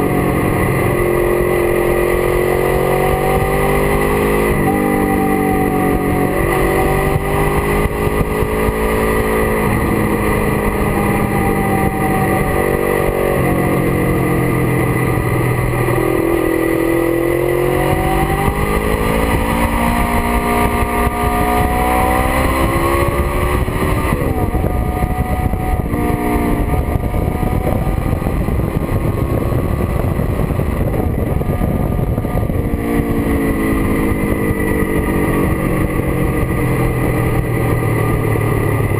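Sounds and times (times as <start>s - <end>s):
motorcycle engine accelerating: 0.0s - 38.9s
wind rush: 0.0s - 38.9s.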